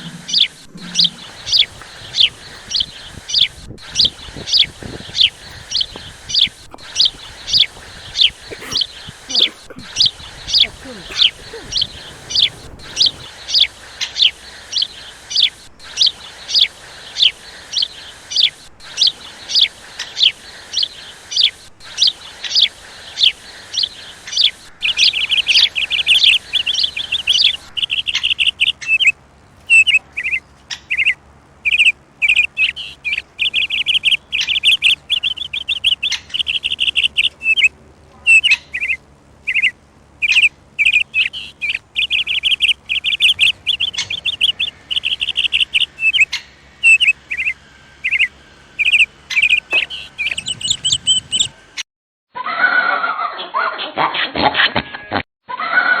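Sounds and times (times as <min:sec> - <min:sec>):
bird twittering trill: 0:00.0 - 0:51.8
songbird chirping: 0:00.0 - 0:51.8.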